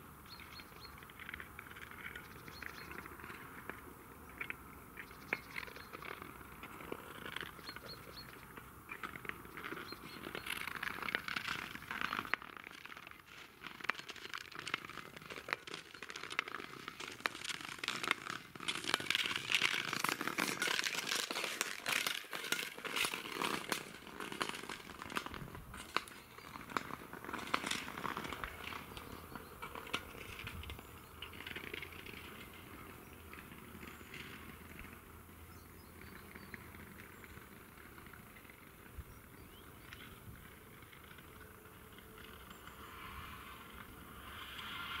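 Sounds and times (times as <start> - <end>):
ice skate blades scraping ice: 0.3 - 35.2, 39.6 - 45.0.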